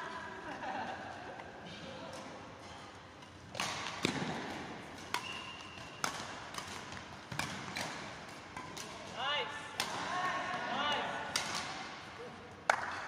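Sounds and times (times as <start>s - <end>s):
rackets hitting shuttlecock: 2.1s - 13.0s.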